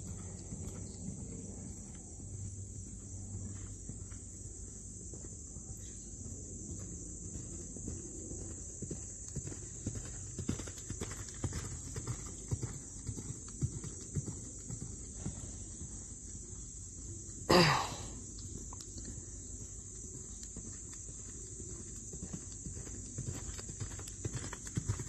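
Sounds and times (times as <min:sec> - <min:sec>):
horse hoofbeats on sand: 0:00.0 - 0:16.7, 0:18.5 - 0:25.0.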